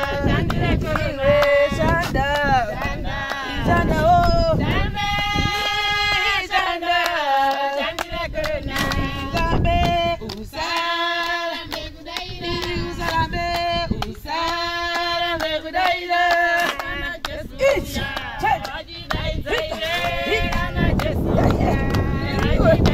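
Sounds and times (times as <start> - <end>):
voices singing: 0.0 - 22.9.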